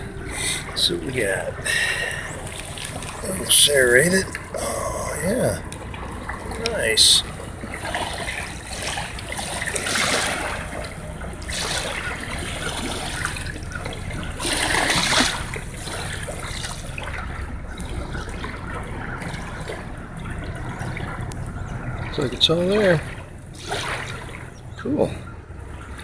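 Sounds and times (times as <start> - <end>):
rushing water: 0.0 - 26.0
water trickling in a stream: 0.0 - 26.0.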